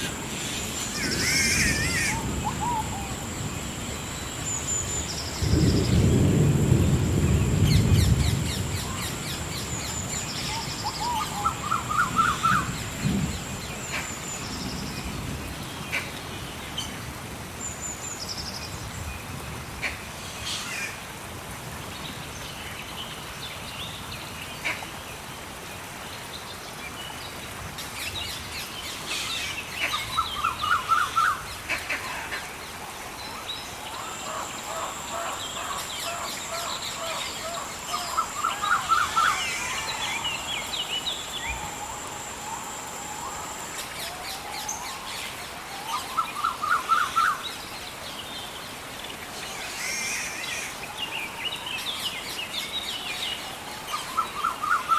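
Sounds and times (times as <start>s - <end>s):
faint steady hiss: 0.0s - 54.9s.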